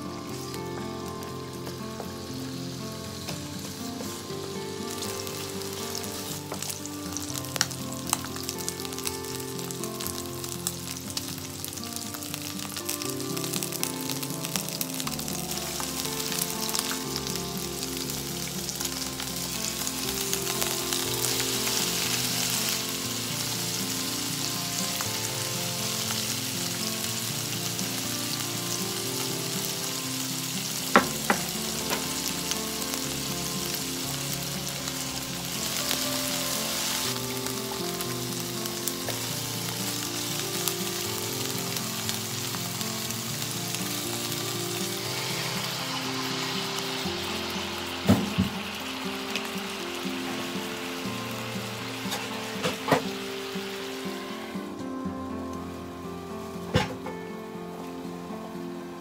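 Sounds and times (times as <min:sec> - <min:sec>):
chicken sizzling in frying pan: 0:00.0 - 0:58.0.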